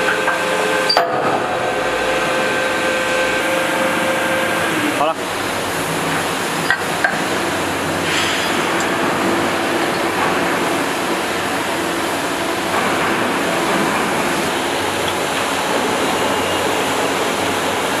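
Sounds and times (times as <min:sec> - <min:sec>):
low machinery hum: 0:00.0 - 0:18.0.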